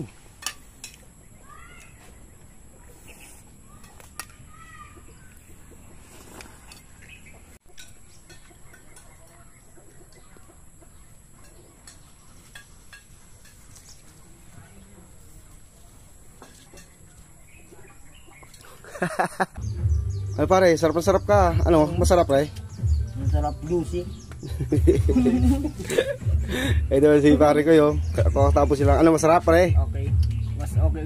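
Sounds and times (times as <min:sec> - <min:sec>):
faint birds chirping: 0:00.0 - 0:31.0
low rural background: 0:00.0 - 0:31.0.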